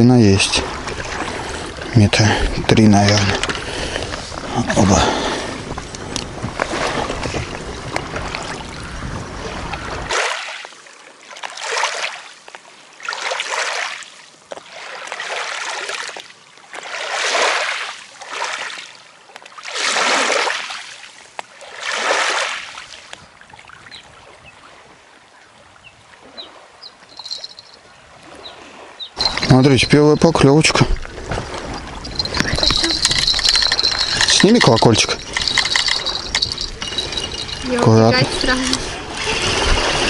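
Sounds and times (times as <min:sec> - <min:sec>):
water washing and lapping: 0:00.0 - 0:40.0.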